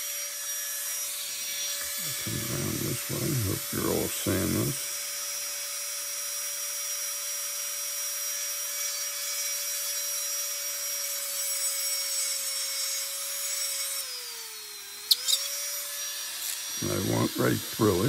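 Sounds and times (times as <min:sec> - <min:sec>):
rotary tool drilling wood: 0:00.0 - 0:18.0.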